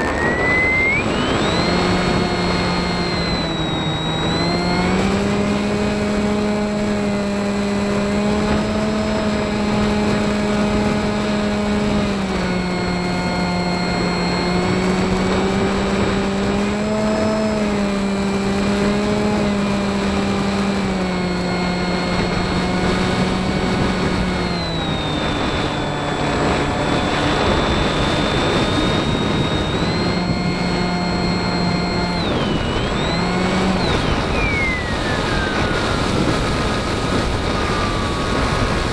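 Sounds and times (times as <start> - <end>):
model plane motor buzzing: 0.0 - 38.9.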